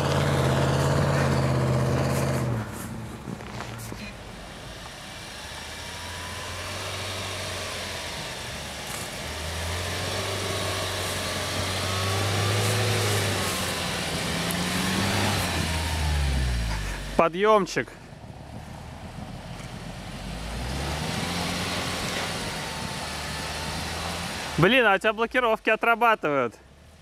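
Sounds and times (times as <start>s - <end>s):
engine droning in snow: 0.0s - 27.0s.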